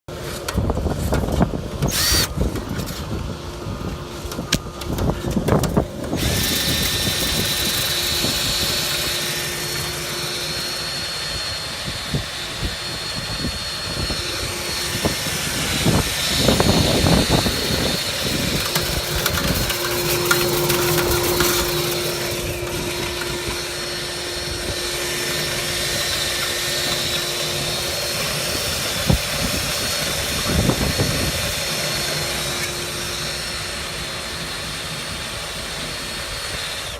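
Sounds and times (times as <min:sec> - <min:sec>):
blower motor whining and humming: 0:00.1 - 0:36.9.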